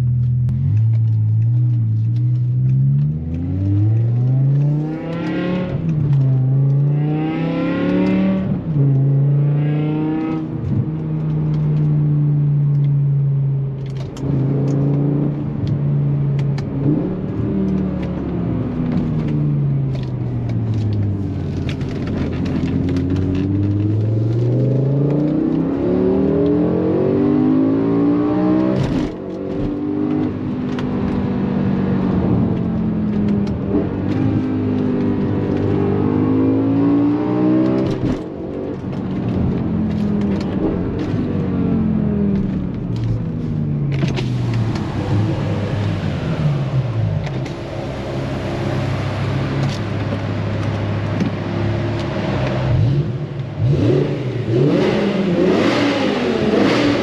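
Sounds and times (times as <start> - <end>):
car engine revving under load: 0.0 - 57.0.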